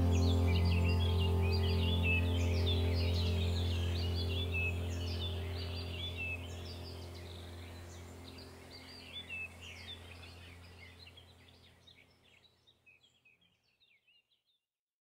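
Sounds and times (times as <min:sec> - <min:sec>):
low steady hum: 0:00.0 - 0:12.4
birds chirping: 0:00.0 - 0:14.2.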